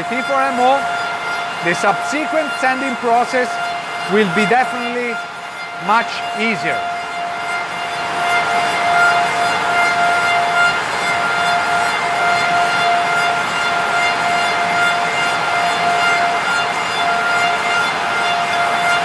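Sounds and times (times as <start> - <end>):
lathe high-pitched whine: 0.0 - 19.0.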